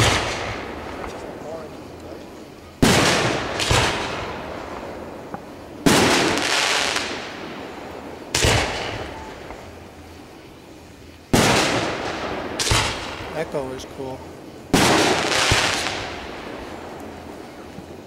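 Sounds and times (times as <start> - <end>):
firework shells booming: 0.0 - 10.5, 11.3 - 18.0.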